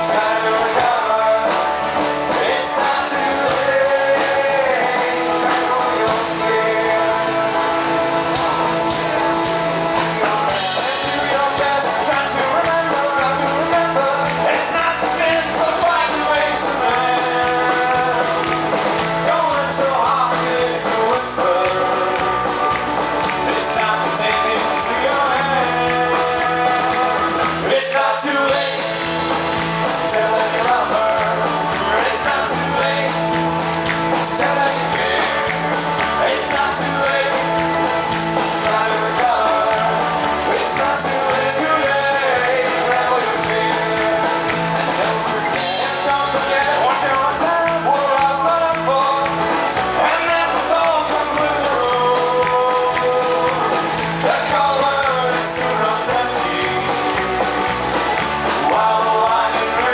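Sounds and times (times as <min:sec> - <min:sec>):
live folk-rock band playing: 0:00.0 - 0:59.9.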